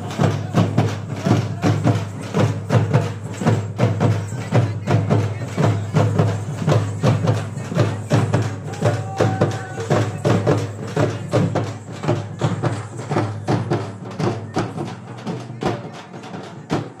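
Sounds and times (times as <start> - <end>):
frame drums beaten with sticks: 0.0 - 17.0.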